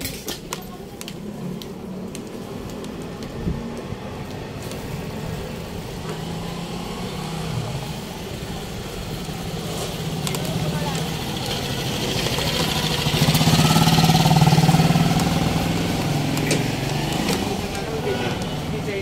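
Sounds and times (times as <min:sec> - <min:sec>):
street traffic: 0:00.0 - 0:19.0
vehicle engine humming: 0:00.8 - 0:19.0.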